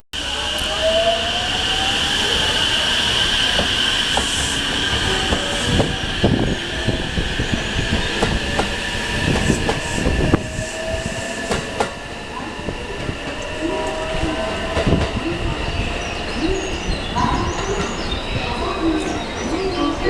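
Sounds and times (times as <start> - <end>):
train wheel squeal: 0.2 - 20.0.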